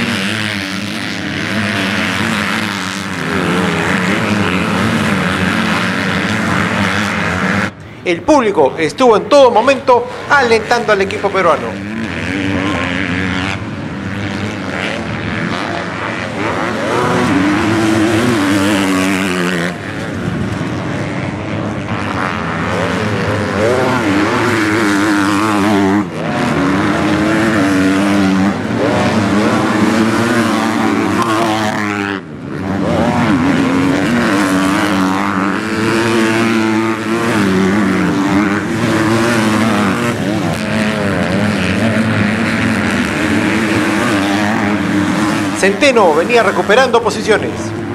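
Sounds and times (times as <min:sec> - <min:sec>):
motocross bike engines revving: 0:00.0 - 0:47.9.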